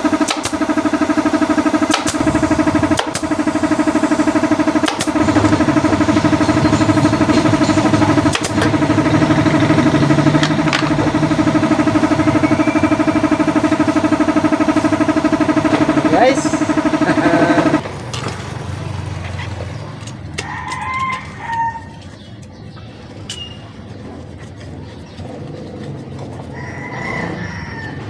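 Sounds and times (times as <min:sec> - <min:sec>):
small engine running: 0:00.0 - 0:20.5, 0:21.4 - 0:28.0.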